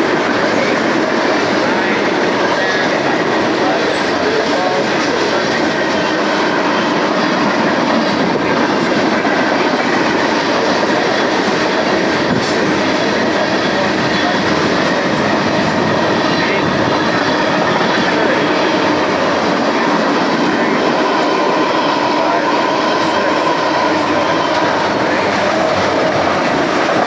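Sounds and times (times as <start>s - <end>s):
freight train rolling past: 0.0s - 27.0s.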